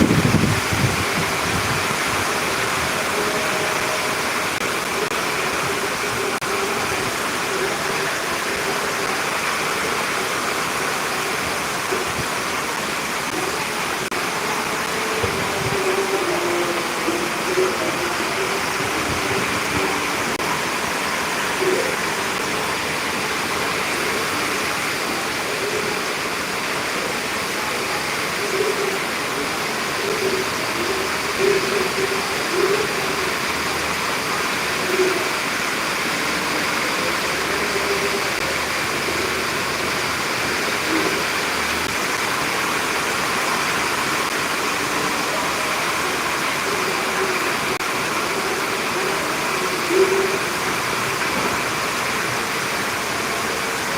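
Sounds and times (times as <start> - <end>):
heavy rain hissing: 0.0 - 53.9.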